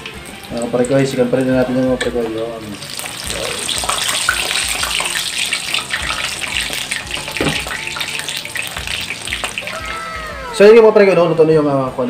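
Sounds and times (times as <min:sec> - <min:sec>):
oil bubbling and crackling: 0:00.0 - 0:10.0.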